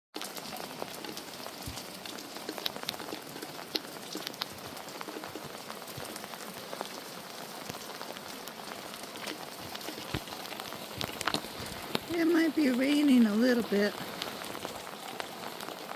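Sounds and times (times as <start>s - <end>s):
light rain pattering: 0.2s - 15.9s.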